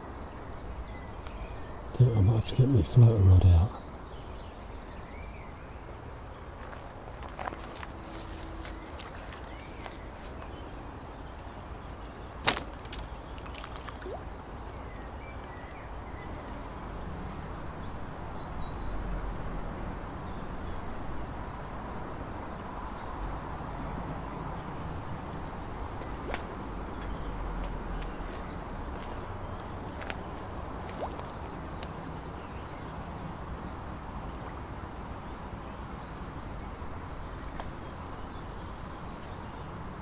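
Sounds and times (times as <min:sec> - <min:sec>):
outdoor background noise: 0:00.0 - 0:40.0.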